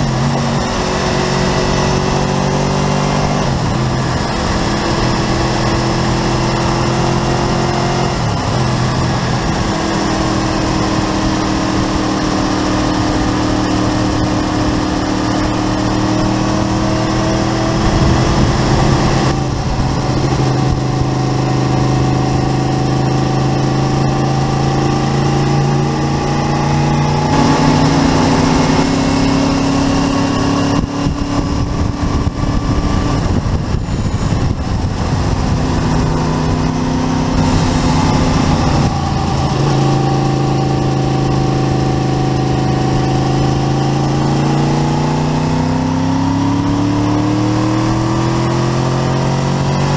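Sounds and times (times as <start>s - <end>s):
motorcycle engine accelerating: 0.0s - 49.9s
wind and road noise: 0.0s - 49.9s.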